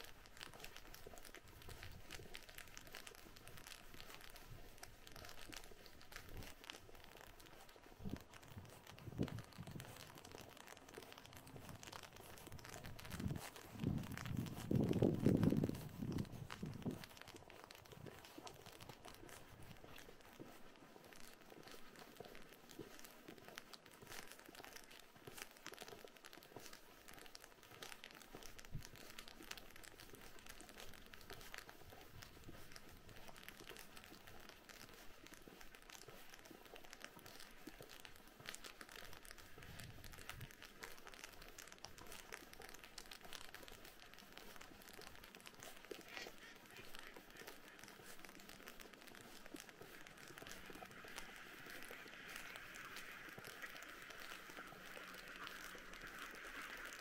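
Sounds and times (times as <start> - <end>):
footsteps crunching on icy snow: 0.0 - 57.0
freezing rain and ice pellets: 0.0 - 57.0.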